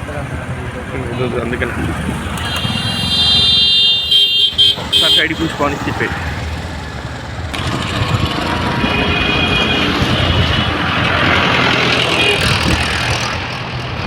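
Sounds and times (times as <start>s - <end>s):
diesel engines rumbling: 0.0s - 14.0s
road noise: 0.0s - 14.0s.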